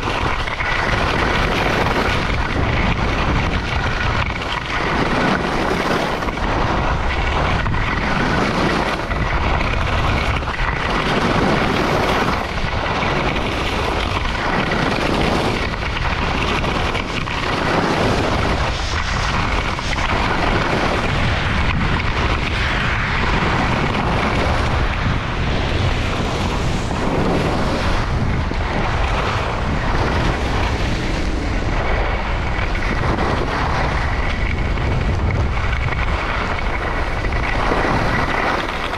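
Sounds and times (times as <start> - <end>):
skis scraping on snow: 0.0 - 38.9
wind on microphone: 0.0 - 38.9.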